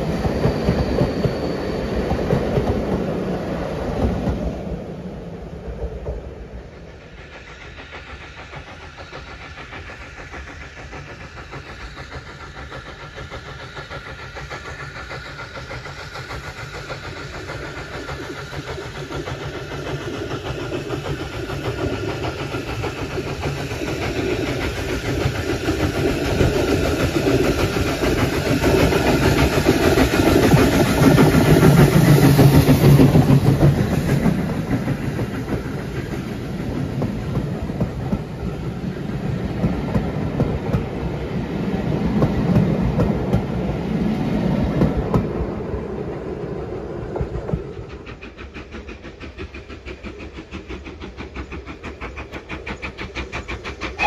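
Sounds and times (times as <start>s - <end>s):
steam locomotive passing: 0.0s - 54.0s.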